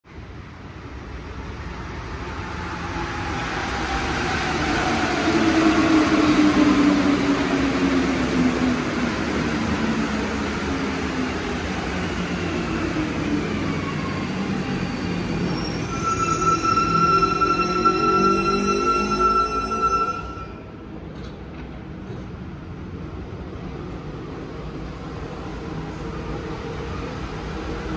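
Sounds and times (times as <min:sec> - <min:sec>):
metro train whine slowing: 0:00.1 - 0:27.9.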